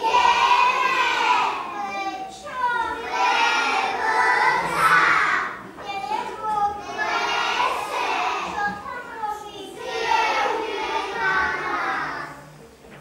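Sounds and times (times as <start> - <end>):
children singing a folk song: 0.0 - 12.6.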